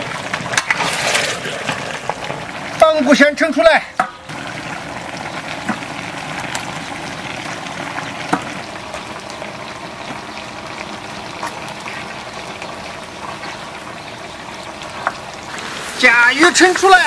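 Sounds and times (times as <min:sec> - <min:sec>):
sauce bubbling and sizzling in wok: 0:00.0 - 0:17.0.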